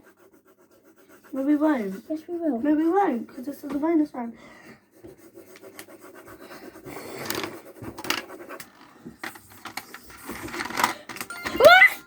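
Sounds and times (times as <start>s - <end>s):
pens scribbling on paper: 0.0s - 10.9s.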